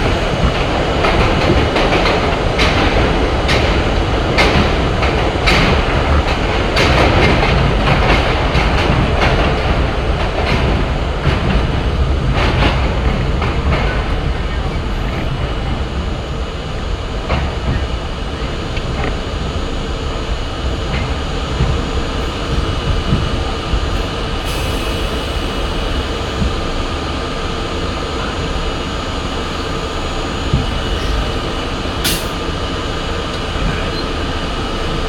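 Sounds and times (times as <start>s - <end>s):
subway wheels rumbling on rails: 0.0s - 35.0s.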